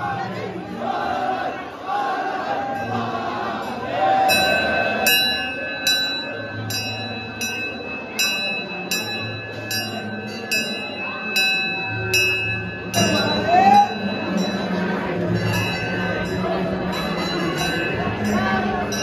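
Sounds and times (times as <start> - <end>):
crowd voices: 0.0 - 19.0
large brass bell ringing: 2.8 - 19.0.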